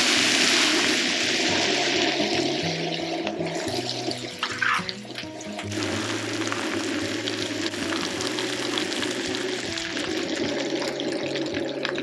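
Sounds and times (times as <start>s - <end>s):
meat and vegetables sizzling: 0.0s - 12.0s.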